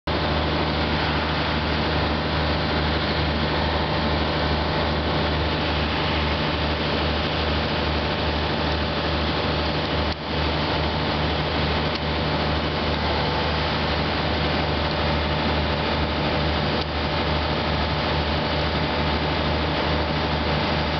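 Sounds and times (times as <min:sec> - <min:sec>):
machine hum: 0:00.1 - 0:20.9.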